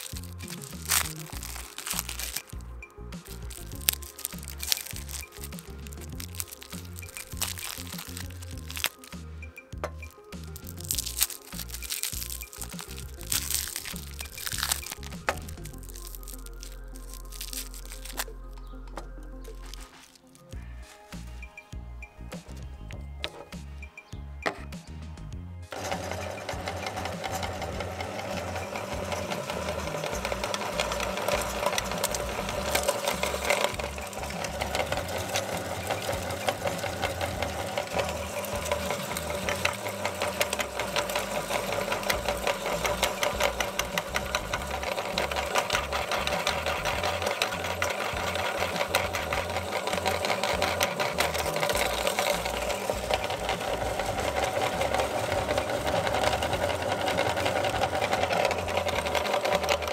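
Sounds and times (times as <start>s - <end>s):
meat grinder crushing candy: 0.0s - 21.1s, 25.7s - 59.9s.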